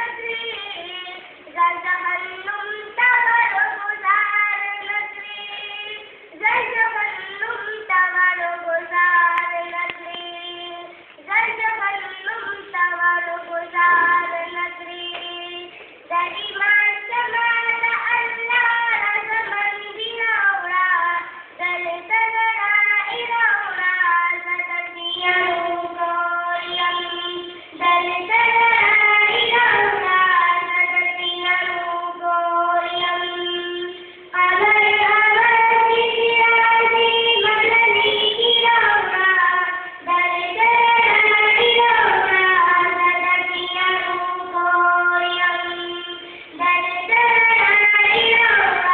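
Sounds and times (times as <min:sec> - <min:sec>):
girl singing unaccompanied: 0:00.0 - 0:48.9.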